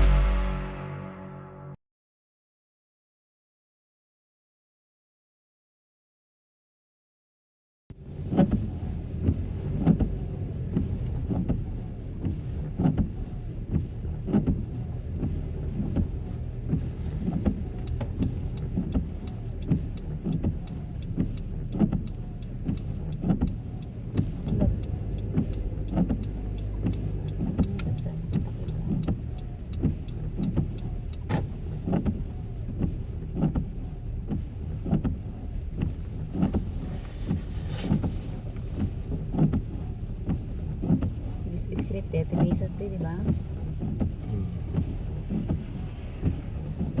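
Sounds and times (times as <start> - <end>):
car interior rumble: 0.0 - 1.0, 7.9 - 47.0.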